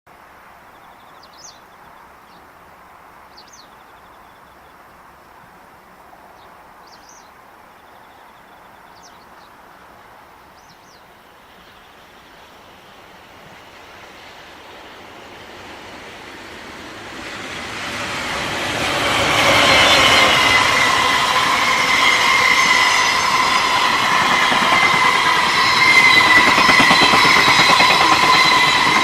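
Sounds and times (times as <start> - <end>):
outdoor background noise: 0.1 - 29.0.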